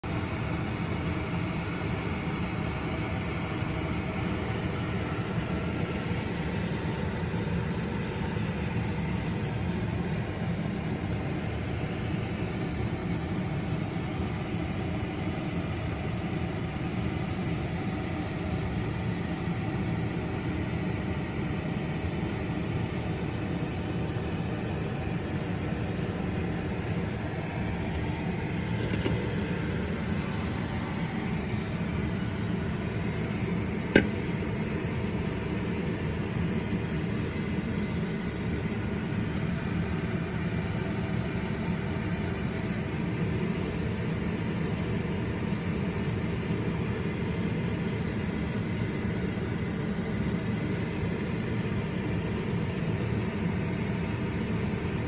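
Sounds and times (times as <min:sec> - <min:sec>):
pot boiling with rumbling hiss: 0:00.0 - 0:55.0.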